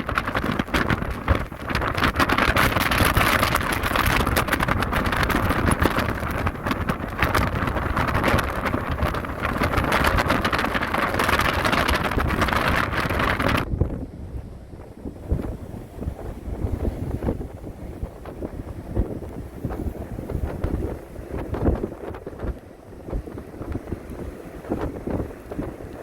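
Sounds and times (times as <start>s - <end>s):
sea surf pounding: 0.0s - 26.0s
wind buffeting microphone: 0.0s - 26.0s.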